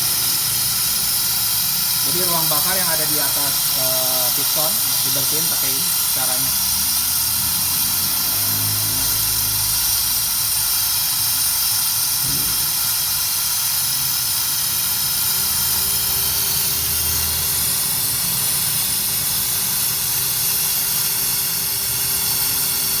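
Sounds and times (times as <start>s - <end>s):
loud hiss of air-driven equipment: 0.0s - 23.0s.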